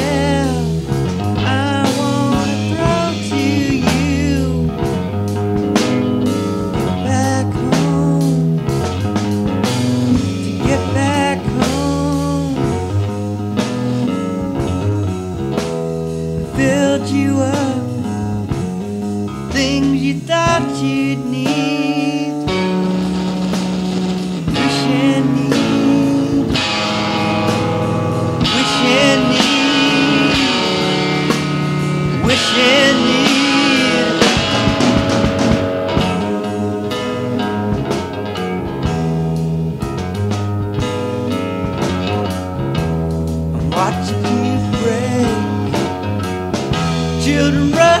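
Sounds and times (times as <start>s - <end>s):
blues rock guitar music: 0.0s - 48.0s.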